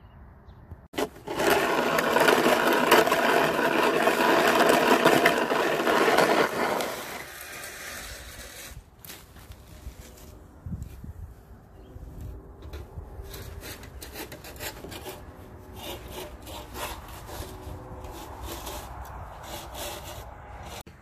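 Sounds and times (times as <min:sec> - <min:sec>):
plastic snow shovel scraping pavement: 0:00.9 - 0:10.4, 0:13.2 - 0:20.8.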